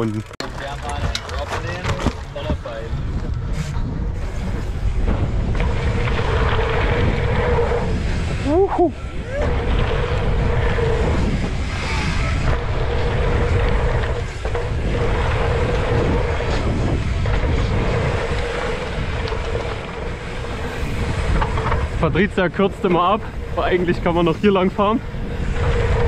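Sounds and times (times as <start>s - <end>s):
bike tyres rolling on dirt: 0.0s - 26.0s
wind rushing over microphone: 0.6s - 26.0s.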